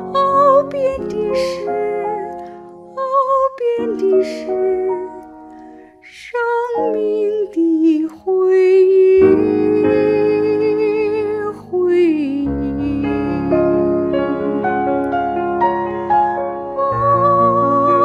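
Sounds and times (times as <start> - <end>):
woman singing a slow ballad: 0.0 - 15.1, 16.7 - 18.0
soft backing track: 0.0 - 18.0.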